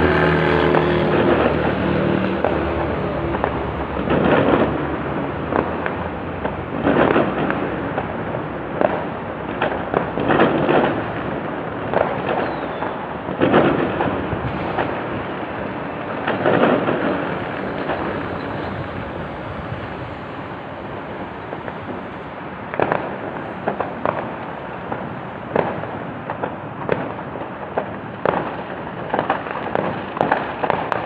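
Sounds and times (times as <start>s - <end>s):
fireworks booming: 0.0s - 31.0s
fireworks cracks and crackle: 0.0s - 31.0s.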